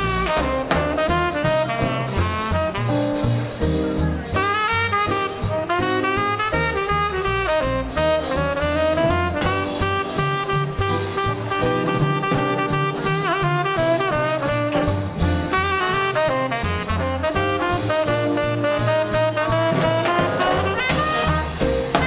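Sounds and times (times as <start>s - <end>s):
swing band playing: 0.0s - 22.0s.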